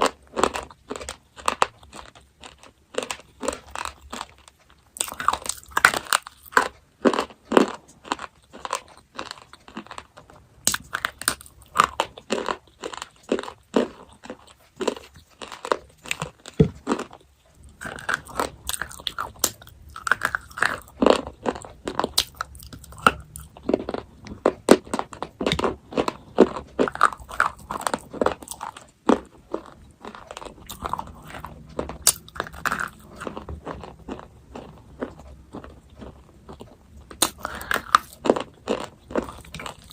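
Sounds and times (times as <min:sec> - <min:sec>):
chewing and crunching chocolate: 0:00.0 - 0:39.9.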